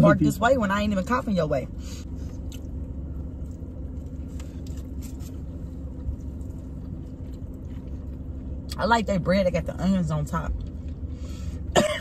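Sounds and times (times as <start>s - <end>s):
car idling rumble: 0.0s - 12.0s.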